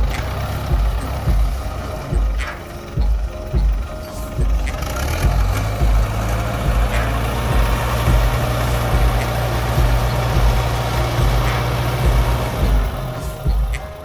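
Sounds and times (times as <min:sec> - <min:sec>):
heavy machinery engine drone: 0:00.0 - 0:14.0.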